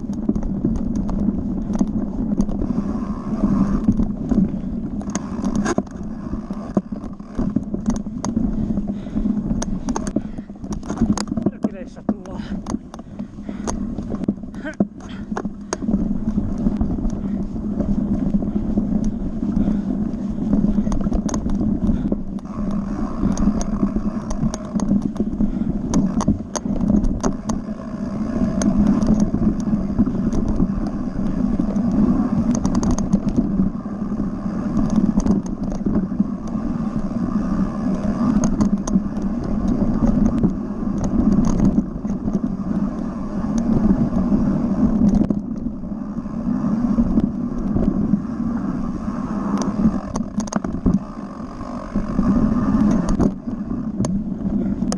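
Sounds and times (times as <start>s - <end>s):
bike rattling and clicking: 0.0s - 54.9s
bike tyres rumbling on dirt: 0.0s - 54.9s.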